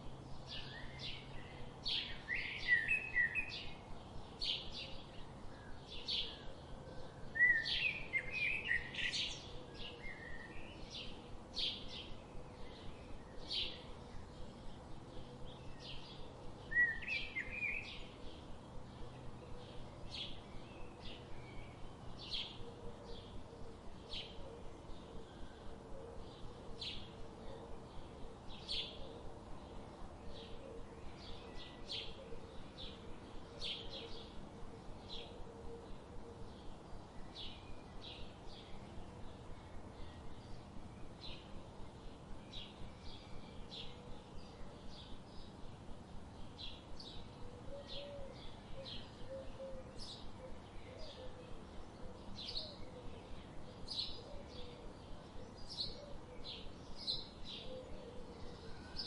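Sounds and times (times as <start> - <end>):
small birds chirping: 0.0 - 59.0
steady background hiss: 0.0 - 59.0.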